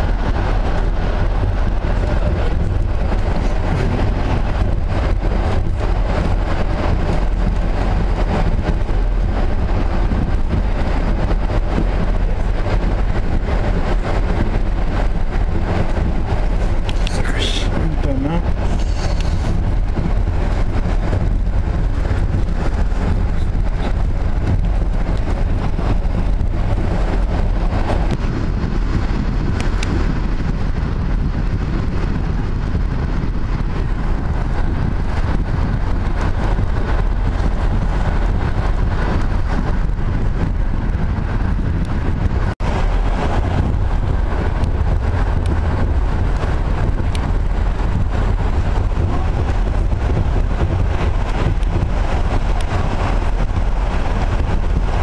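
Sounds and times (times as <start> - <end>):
rushing air noise: 0.0 - 55.0
train wheels rumbling on rails: 0.0 - 55.0.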